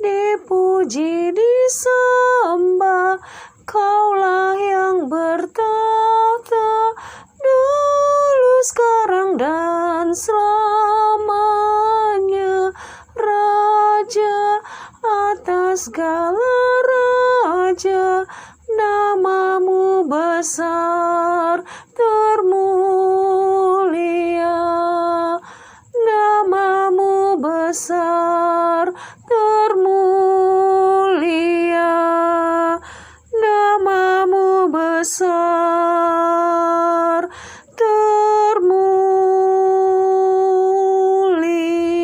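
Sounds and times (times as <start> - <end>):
woman singing a cappella: 0.0 - 42.0.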